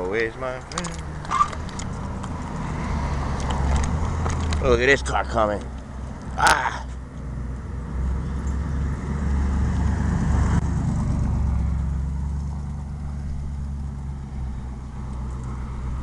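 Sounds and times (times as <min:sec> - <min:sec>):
car driving past: 0:01.1 - 0:05.1, 0:07.2 - 0:16.0.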